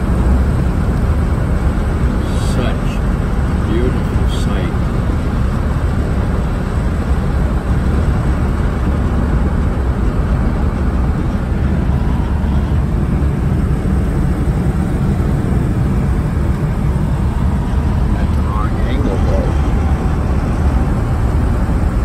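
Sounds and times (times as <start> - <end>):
car engine drone: 0.0 - 22.0
road and wind noise: 0.0 - 22.0.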